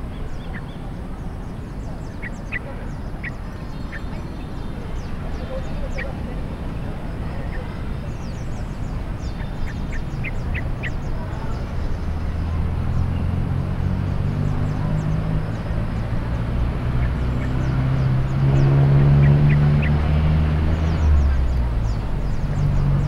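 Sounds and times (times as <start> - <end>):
low rumble of traffic: 0.0 - 23.0
passing vehicle engine hum: 0.0 - 23.0.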